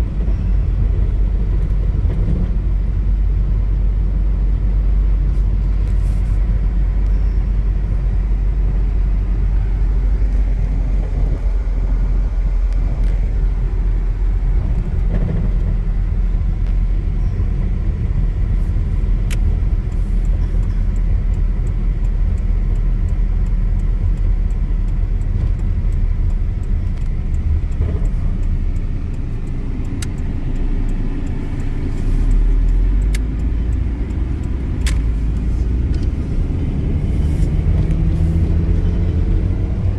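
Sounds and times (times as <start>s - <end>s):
engine low rumble: 0.0s - 39.9s
road noise: 0.0s - 39.9s.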